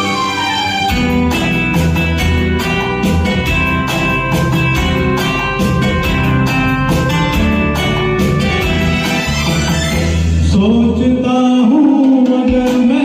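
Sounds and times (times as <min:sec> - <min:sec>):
guitar over a steady beat: 0:00.0 - 0:10.8, 0:11.6 - 0:13.0.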